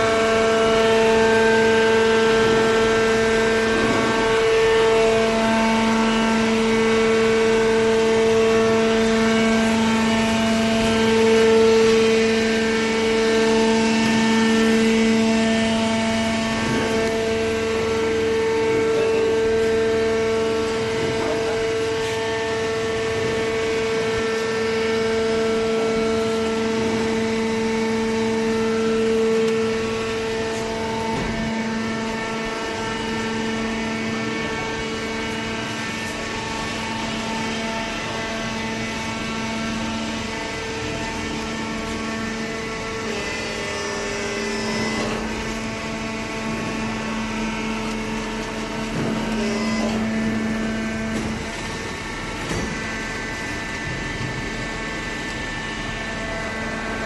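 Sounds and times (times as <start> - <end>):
hydraulic pump motor humming: 0.0 - 57.0.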